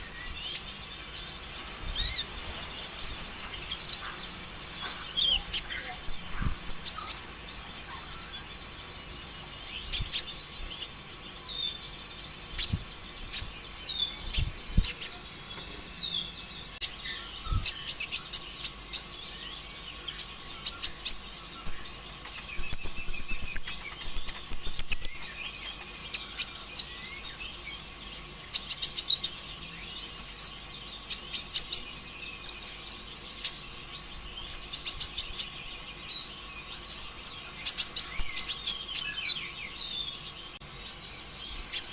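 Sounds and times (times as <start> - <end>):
sunbird singing chirps and trills: 0.0 - 41.9.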